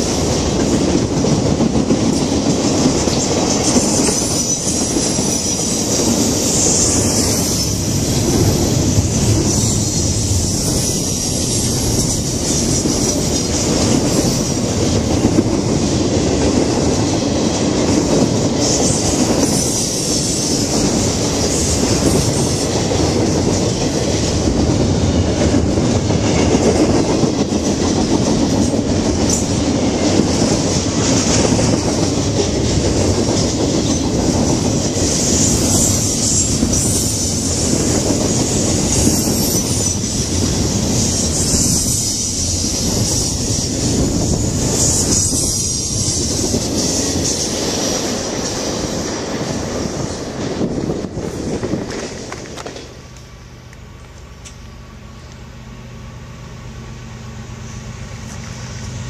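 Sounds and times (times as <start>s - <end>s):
clickety-clack over rail joints: 0.0s - 55.4s
steel wheels rumbling on rails: 0.0s - 59.0s
high metallic wheel hiss: 3.1s - 15.3s, 18.5s - 24.2s, 25.2s - 52.3s, 52.9s - 59.0s.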